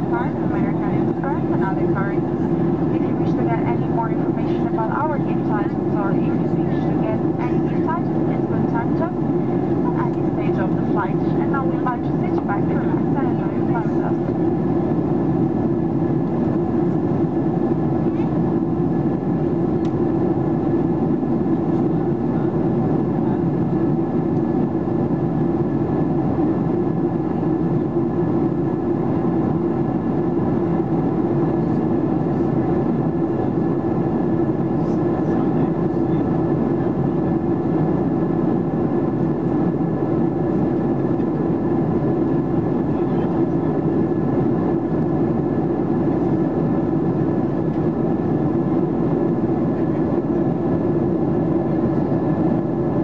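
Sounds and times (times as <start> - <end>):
airplane cabin jet engine rush: 0.0 - 53.0.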